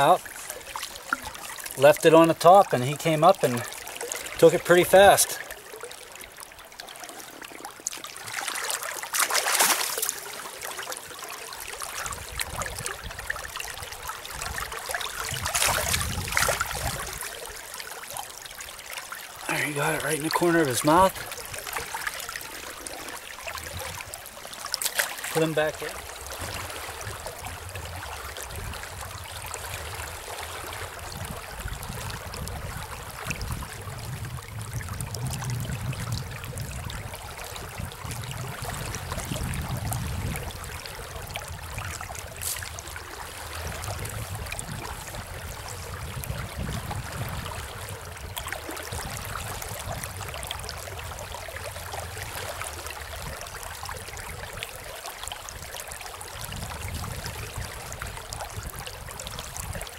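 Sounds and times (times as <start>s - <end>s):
river water rushing: 0.0s - 31.7s, 38.6s - 56.6s.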